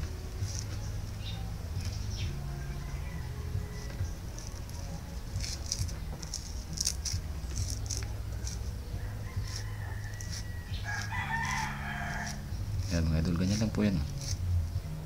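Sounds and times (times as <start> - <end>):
cord fibres scratching and rustling: 0.0 - 15.0
low steady hum: 0.0 - 15.0.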